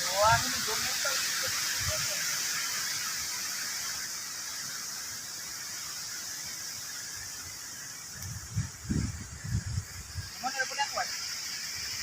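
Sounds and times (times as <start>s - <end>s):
wind rustling leaves: 0.0s - 12.0s.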